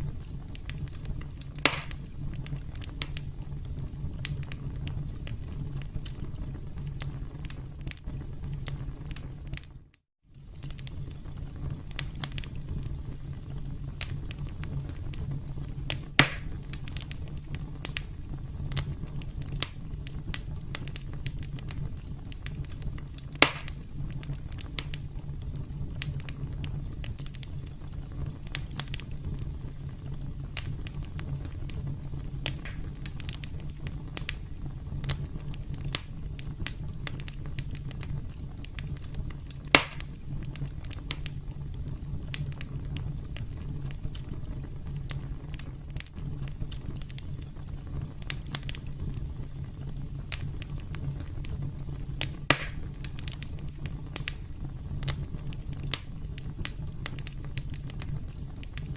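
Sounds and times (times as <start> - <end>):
campfire crackling: 0.0 - 58.9
loud fire pops: 0.0 - 58.9
low rumble of flames: 0.0 - 58.9.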